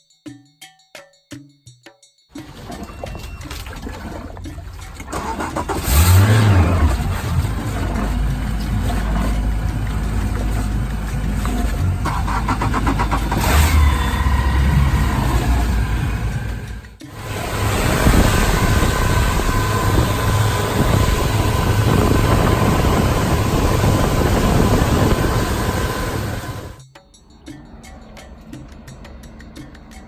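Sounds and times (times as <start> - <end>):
boat engine revving: 2.4 - 26.8.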